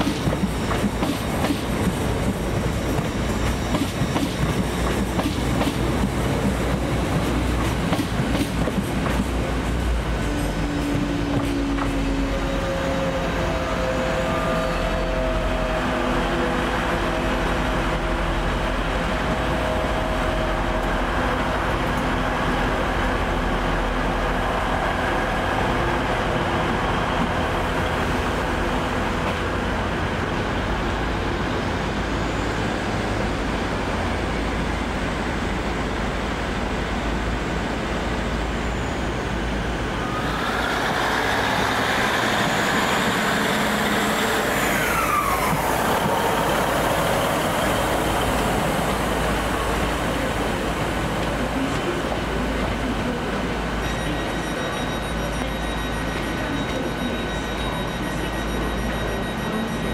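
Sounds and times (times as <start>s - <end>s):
moving train whine: 0.0s - 59.9s
train engine hum: 0.0s - 59.9s.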